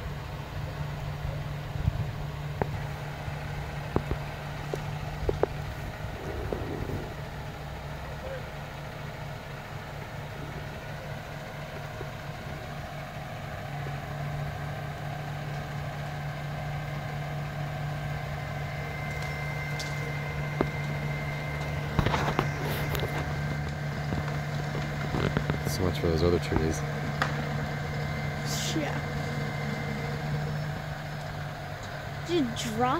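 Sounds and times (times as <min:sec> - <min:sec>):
crane engine running: 0:00.0 - 0:32.9.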